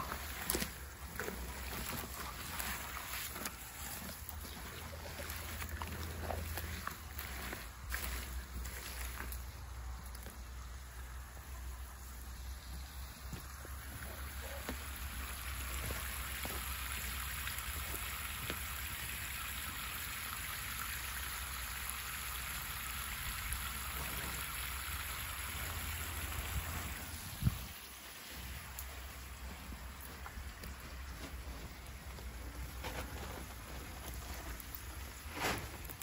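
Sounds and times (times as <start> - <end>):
garden hose water splashing: 0.0 - 36.0.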